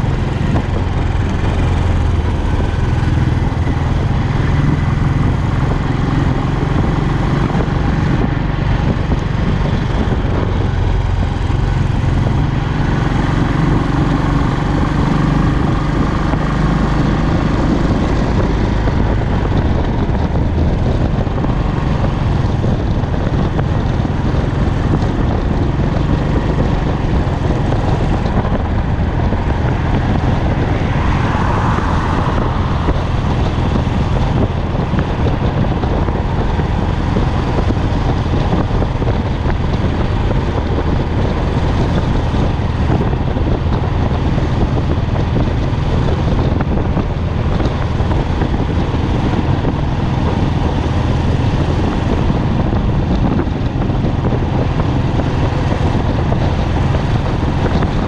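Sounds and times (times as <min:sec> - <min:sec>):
motorcycle engine cruising: 0:00.0 - 0:58.0
wind noise on microphone: 0:00.0 - 0:58.0.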